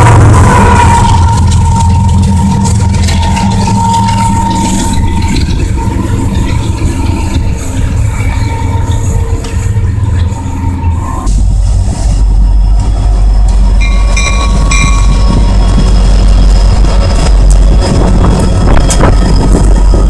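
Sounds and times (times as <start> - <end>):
diesel locomotives rumbling past: 0.0 - 20.0.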